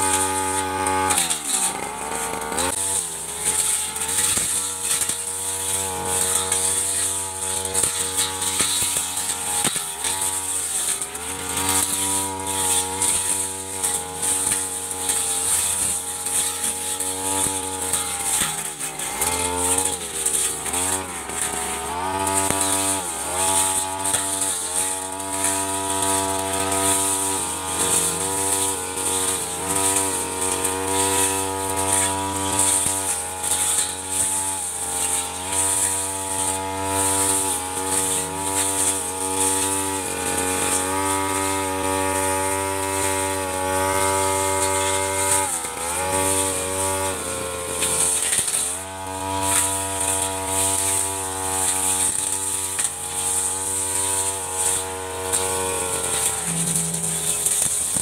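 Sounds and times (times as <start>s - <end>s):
brush cutter running at high revs: 0.0s - 58.0s.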